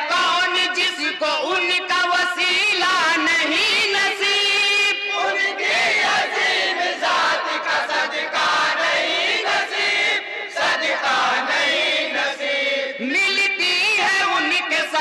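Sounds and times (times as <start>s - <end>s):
men chanting in chorus over pa: 0.0s - 15.0s.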